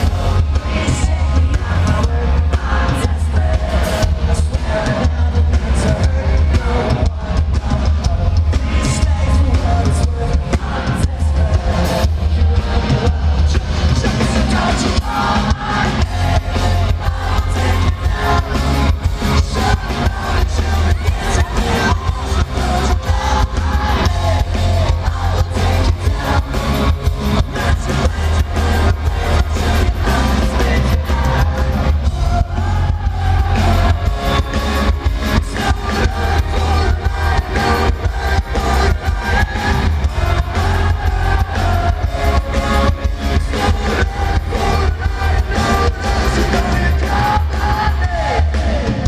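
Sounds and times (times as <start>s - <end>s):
electric guitars: 0.0s - 49.0s
heavy bass: 0.0s - 49.0s
lead voice singing: 0.0s - 49.0s
pounding drum kit: 0.0s - 49.0s.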